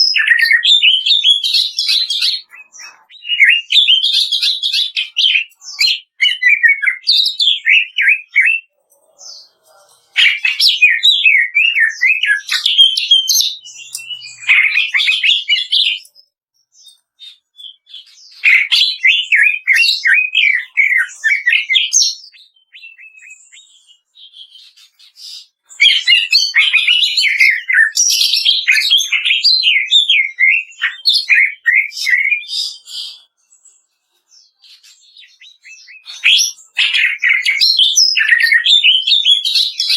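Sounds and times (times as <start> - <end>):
bird singing rapid crackling song: 0.0 - 8.7, 10.2 - 39.9.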